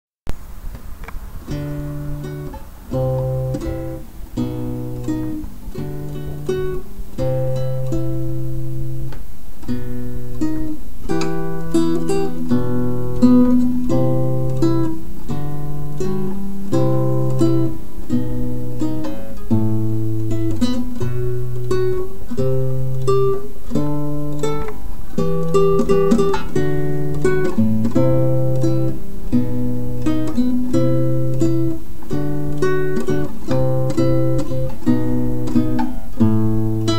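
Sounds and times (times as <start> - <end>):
acoustic guitar plucked notes: 0.3 - 36.9.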